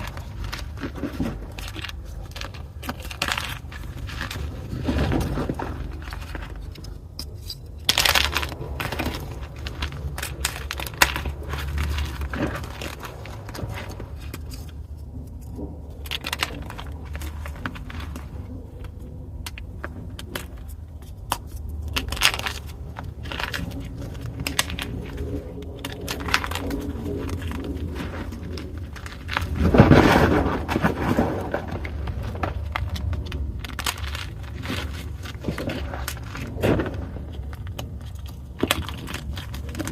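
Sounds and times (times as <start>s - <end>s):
chalk crushed by hand: 0.0s - 39.9s.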